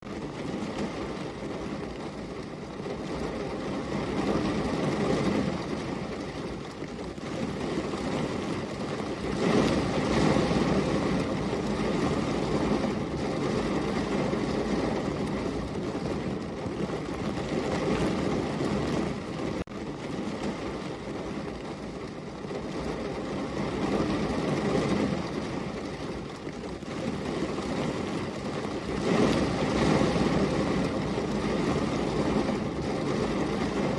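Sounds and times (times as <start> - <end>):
steady rainfall: 0.0 - 33.9.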